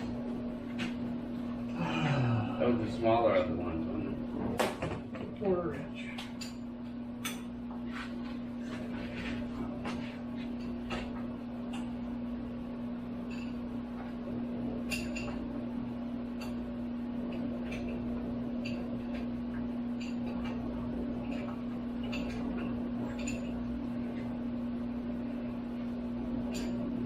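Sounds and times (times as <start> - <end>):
low shop hum: 0.0 - 27.0.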